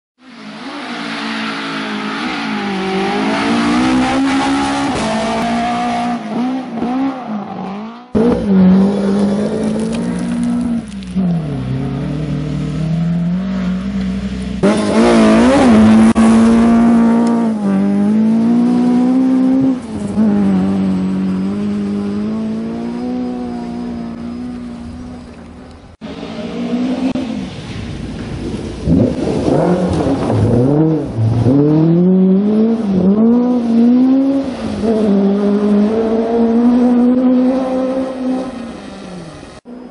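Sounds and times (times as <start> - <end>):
rally car engines revving: 0.2 - 39.9.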